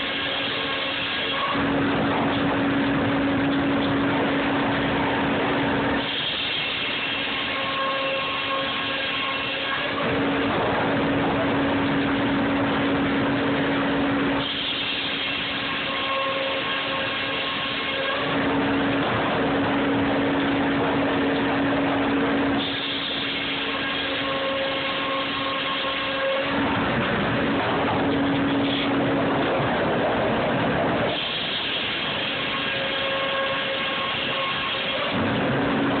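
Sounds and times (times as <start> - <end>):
circular saws cutting boards: 0.0 - 29.1, 31.1 - 35.2
belt conveyor running: 0.0 - 36.0.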